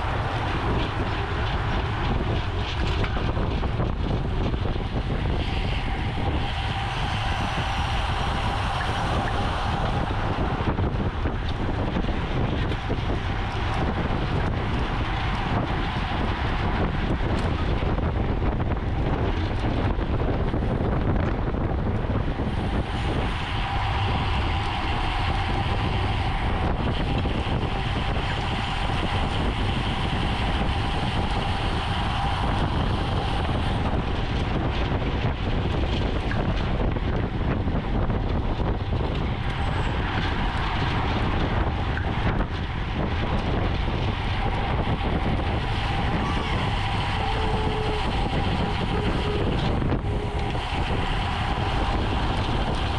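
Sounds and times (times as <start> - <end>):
bicycle tyre road noise: 0.0 - 52.9
faint steady whine: 0.0 - 52.9
wind on microphone: 0.0 - 52.9.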